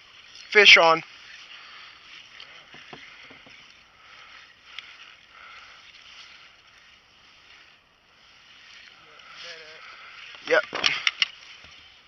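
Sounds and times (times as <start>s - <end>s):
low steady water hiss: 0.0s - 12.0s.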